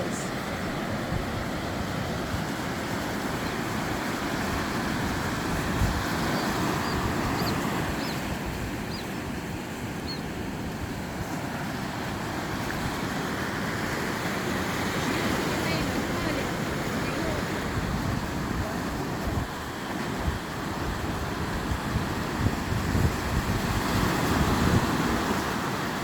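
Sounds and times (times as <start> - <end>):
ocean surf: 0.0 - 26.0
wind buffeting microphone: 0.0 - 26.0.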